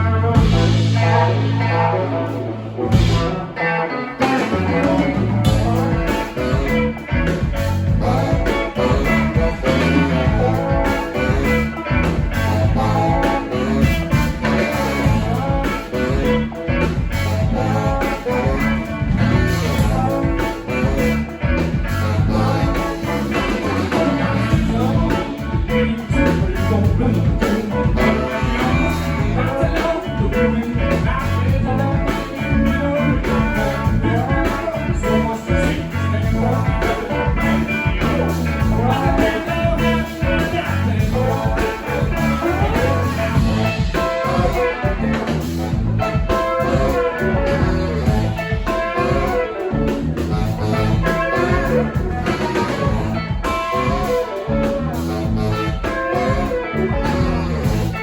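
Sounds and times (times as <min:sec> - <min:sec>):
electric guitar: 0:00.0 - 0:58.0
live blues-rock band: 0:00.0 - 0:58.0.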